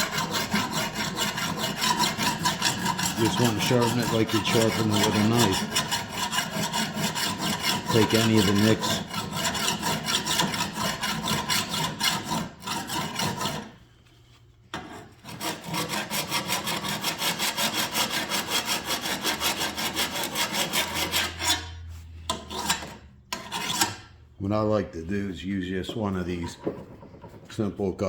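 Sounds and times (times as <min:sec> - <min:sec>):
file rasping on steel blade: 0:00.0 - 0:13.8, 0:14.8 - 0:24.2.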